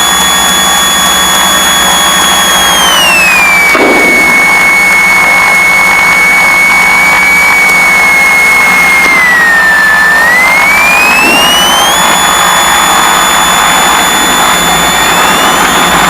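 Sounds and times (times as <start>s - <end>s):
aircraft engine whine: 0.0s - 16.0s.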